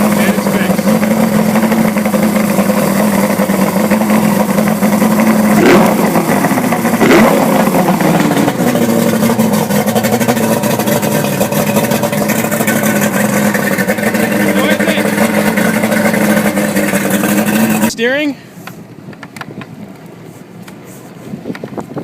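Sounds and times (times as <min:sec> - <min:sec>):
outboard motor idling and revving: 0:00.0 - 0:20.0.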